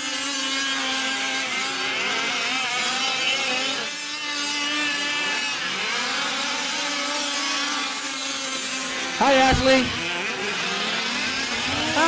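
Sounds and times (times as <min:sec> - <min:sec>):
small two-stroke engines racing: 0:00.0 - 0:12.0.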